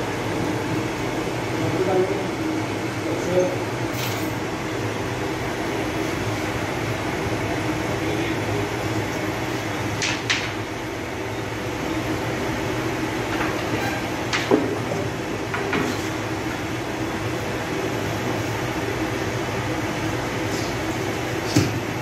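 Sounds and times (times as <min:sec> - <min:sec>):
mechanical hum of equipment: 0:00.0 - 0:22.0.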